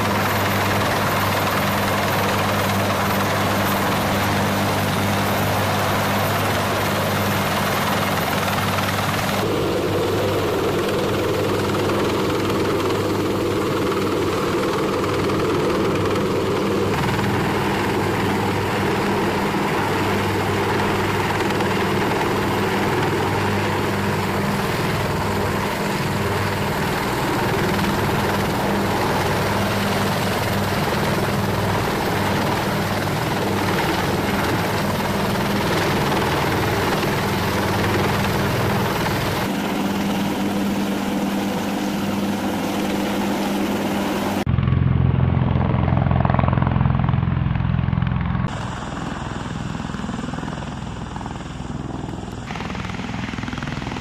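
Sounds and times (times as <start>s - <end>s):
helicopter rotor and turbine drone: 0.0s - 54.0s.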